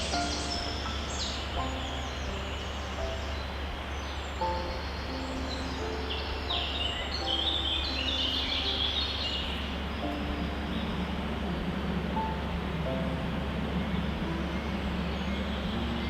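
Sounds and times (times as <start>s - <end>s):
birds chirping: 0.0s - 16.0s
low background hum: 0.0s - 16.0s.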